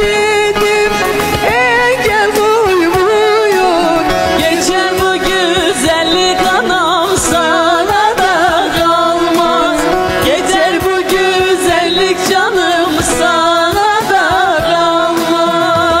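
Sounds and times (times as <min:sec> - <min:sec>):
instrumental backing: 0:00.0 - 0:16.0
women singing folk song: 0:00.0 - 0:16.0.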